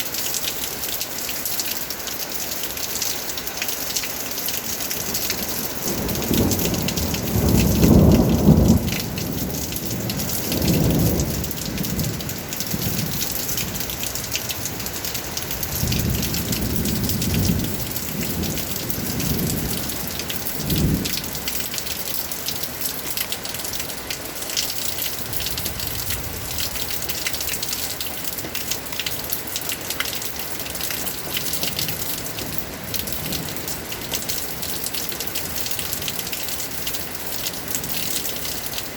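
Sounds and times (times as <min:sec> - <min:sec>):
rain patter: 0:00.0 - 0:38.9.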